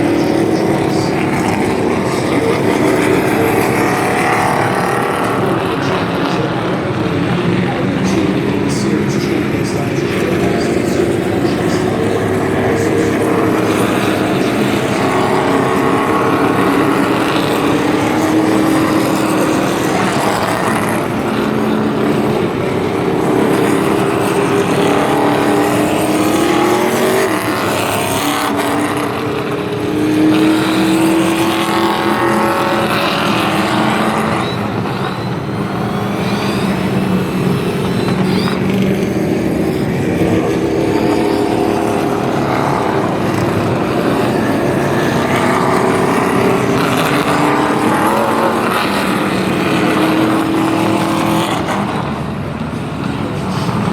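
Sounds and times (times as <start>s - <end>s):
race truck engines passing: 0.0s - 53.9s.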